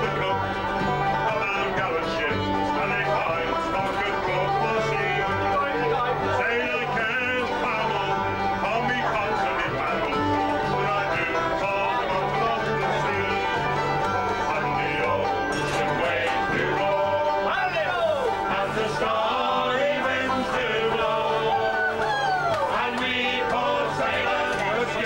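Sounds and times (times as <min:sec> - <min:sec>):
banjo: 0:00.0 - 0:25.0
folk band playing: 0:00.0 - 0:25.0.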